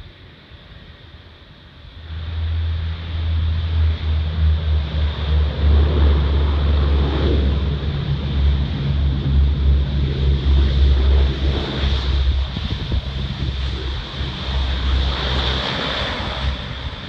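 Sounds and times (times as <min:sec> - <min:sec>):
turbine whine: 0:00.0 - 0:17.0
turboprop aircraft propeller drone: 0:00.0 - 0:17.0.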